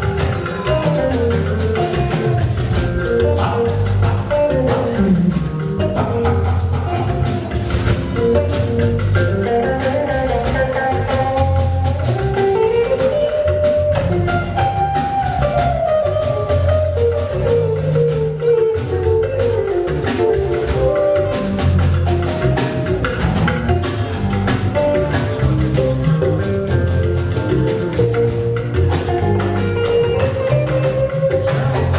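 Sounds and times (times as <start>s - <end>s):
instrumental band music: 0.0s - 31.9s.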